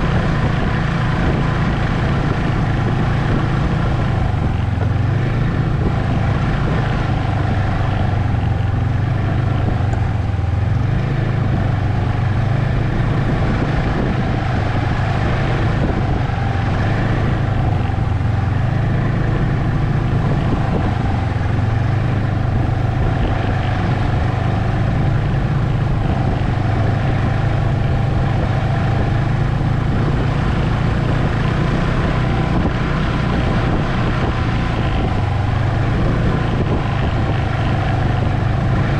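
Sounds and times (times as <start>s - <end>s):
snowmobile engine drone: 0.0s - 38.9s.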